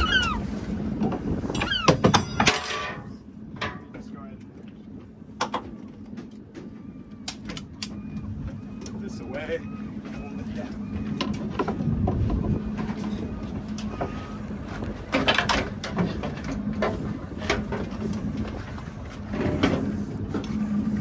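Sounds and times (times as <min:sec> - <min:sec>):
boat engine idling: 0:03.1 - 0:21.0.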